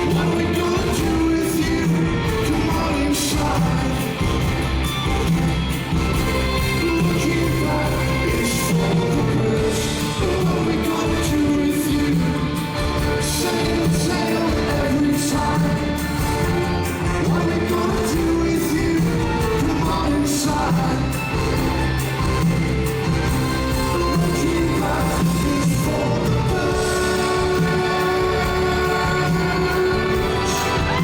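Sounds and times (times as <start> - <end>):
person singing: 0.0 - 31.0
rock band instruments: 0.0 - 31.0.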